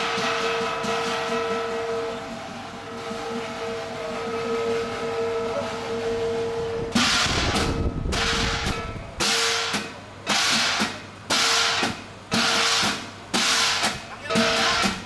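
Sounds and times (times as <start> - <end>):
cymbals crashing: 0.0 - 15.0
drumbeats: 0.0 - 15.0.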